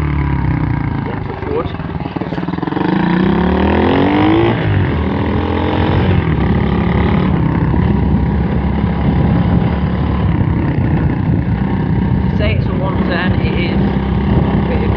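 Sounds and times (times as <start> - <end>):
pit bike engine revving: 0.0 - 14.9.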